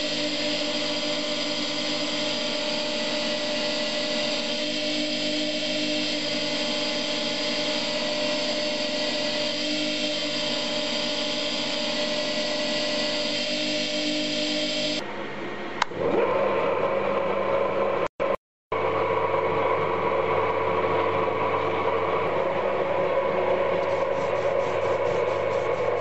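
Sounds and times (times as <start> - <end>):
bench grinder motor humming: 0.0 - 15.0, 18.8 - 26.0.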